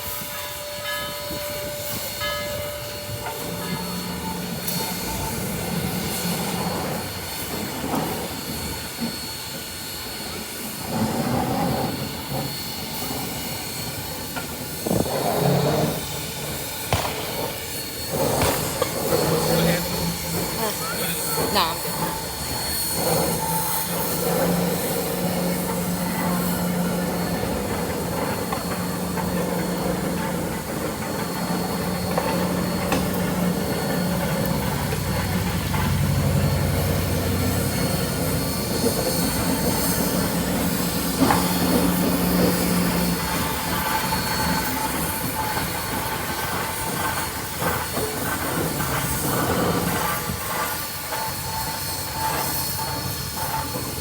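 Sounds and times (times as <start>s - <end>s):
high wheel squeal: 0.0s - 54.0s
railcars rumbling on track: 0.0s - 54.0s.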